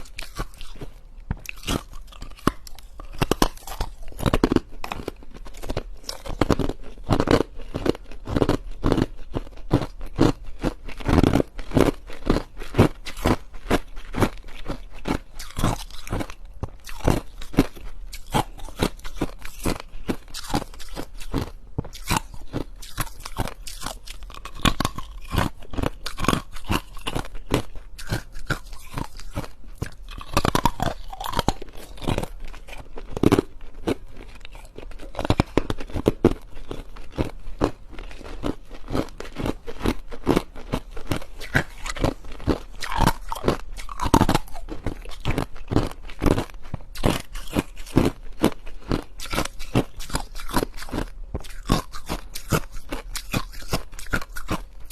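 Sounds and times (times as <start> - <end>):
person chewing ice: 0.0 - 54.9.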